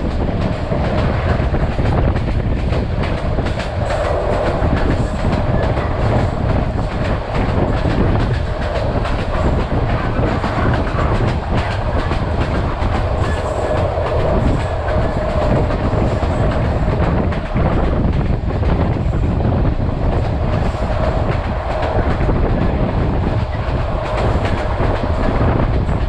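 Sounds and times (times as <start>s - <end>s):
passenger train running on track: 0.0s - 26.0s
wheels clicking over rail joints: 0.0s - 26.0s.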